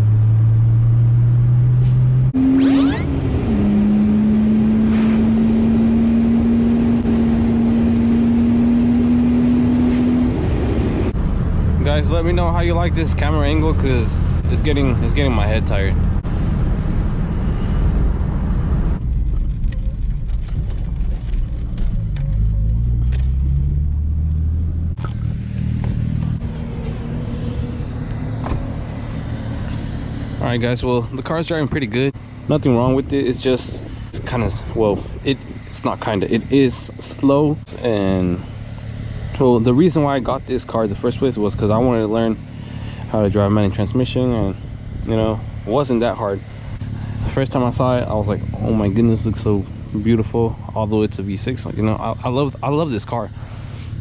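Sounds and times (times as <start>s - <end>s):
car engine drone: 0.0s - 54.0s
road and wind noise: 0.0s - 54.0s.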